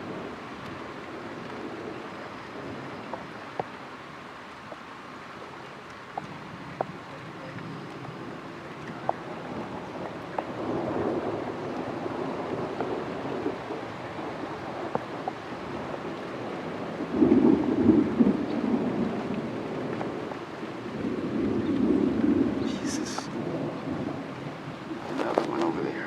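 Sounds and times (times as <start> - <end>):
distant thunder rumbling: 0.0 - 3.8, 6.1 - 26.0.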